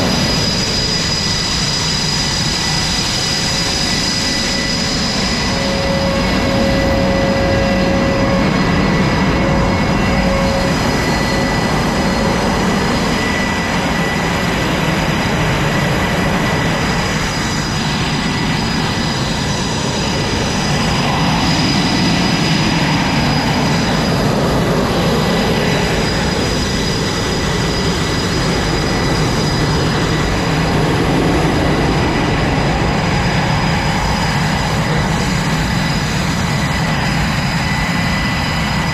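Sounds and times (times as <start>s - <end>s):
high steady whine: 0.0s - 38.9s
jet engines roaring: 0.0s - 38.9s.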